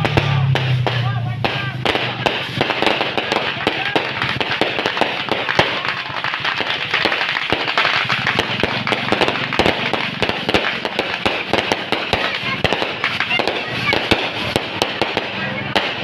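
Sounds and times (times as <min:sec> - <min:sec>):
firecrackers crackling: 0:00.0 - 0:16.0
loud firework bangs: 0:00.0 - 0:16.0.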